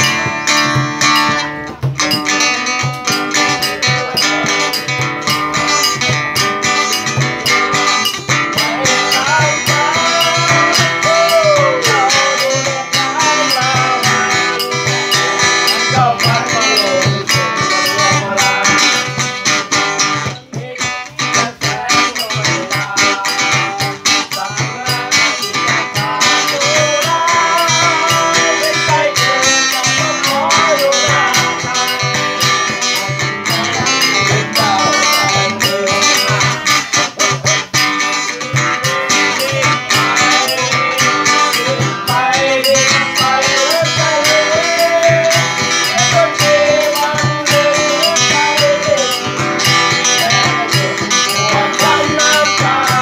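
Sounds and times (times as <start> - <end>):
sliding melody line: 0.0 - 20.1, 21.7 - 53.0
guitars playing folk jam: 0.0 - 53.0.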